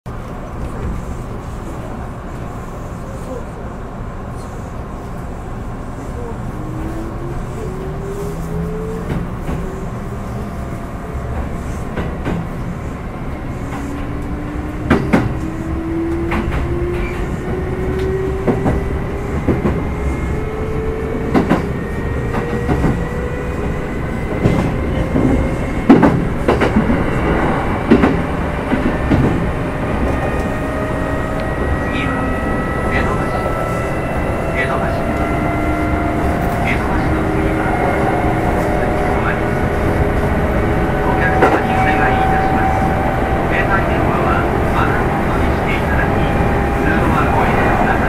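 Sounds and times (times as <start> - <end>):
steady train rumble: 0.1 - 48.0.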